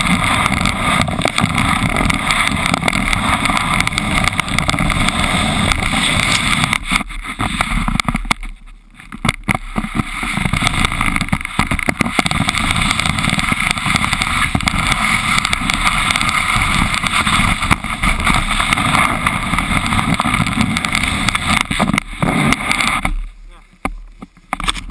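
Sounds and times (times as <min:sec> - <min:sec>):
wind buffeting microphone: 0:00.0 - 0:08.2, 0:09.2 - 0:23.2
snowboard scraping over snow: 0:00.0 - 0:24.9.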